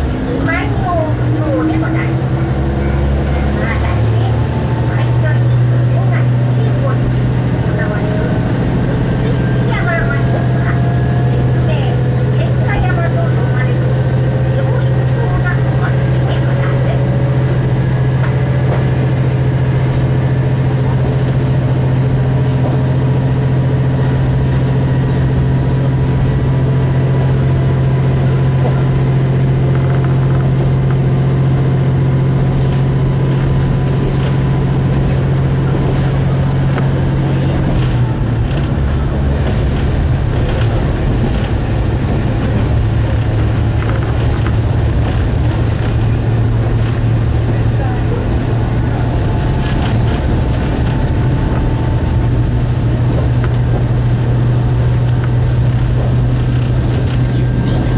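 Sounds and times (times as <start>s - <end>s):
railcar engine drone: 0.0s - 57.9s.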